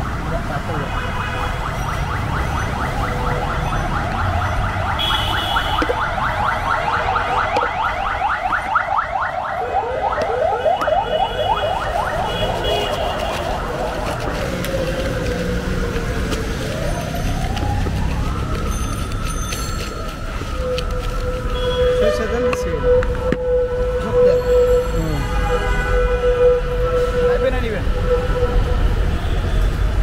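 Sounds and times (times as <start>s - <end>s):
low traffic rumble: 0.0s - 30.0s.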